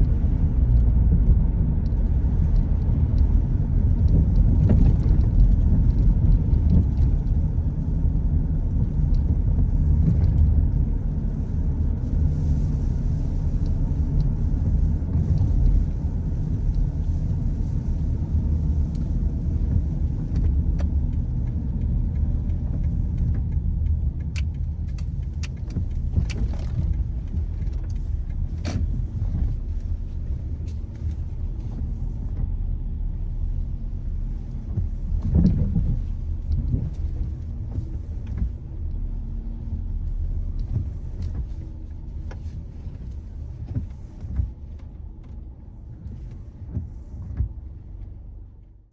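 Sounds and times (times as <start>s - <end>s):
car driving on wet road: 0.0s - 48.9s.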